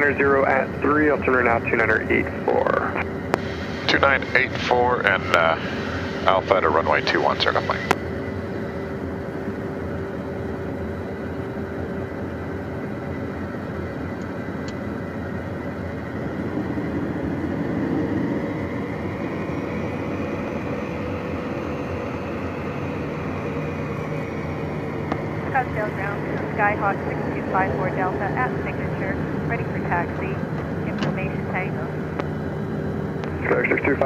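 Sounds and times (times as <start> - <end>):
jet engine cabin hum: 0.0 - 34.0.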